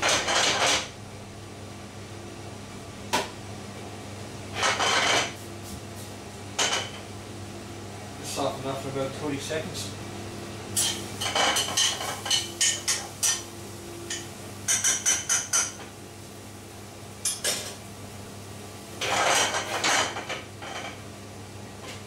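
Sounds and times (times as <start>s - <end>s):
kitchen extraction hum: 0.0s - 22.0s.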